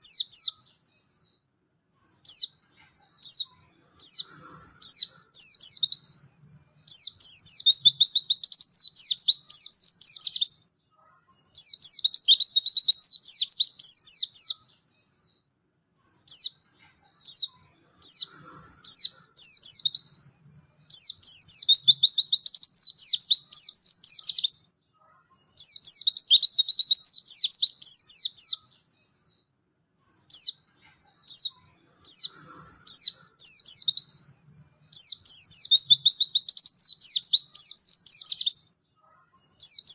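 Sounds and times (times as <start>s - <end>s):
bird high-pitched chirping: 0.0s - 39.9s.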